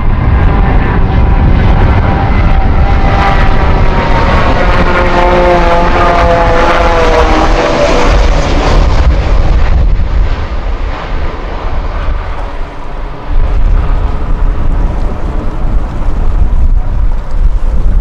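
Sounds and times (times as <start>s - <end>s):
airliner low rumble: 0.0s - 18.0s
jet engine whine: 0.0s - 18.0s.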